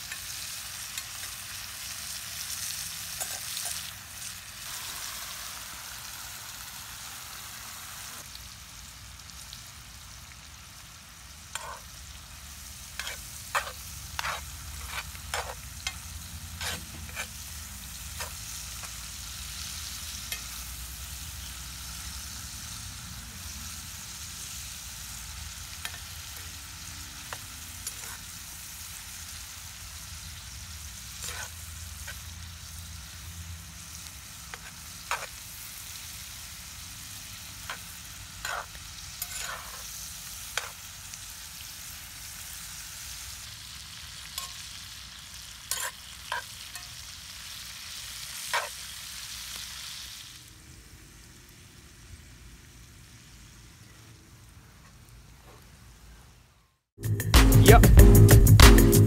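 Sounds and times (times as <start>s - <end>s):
vegetables sizzling in a skillet: 0.0s - 56.6s.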